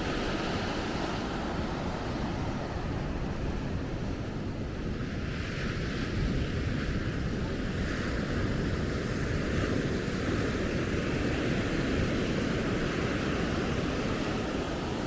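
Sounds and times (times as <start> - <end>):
surf washing on beach: 0.0 - 15.0
wind rumbling on microphone: 0.0 - 15.0.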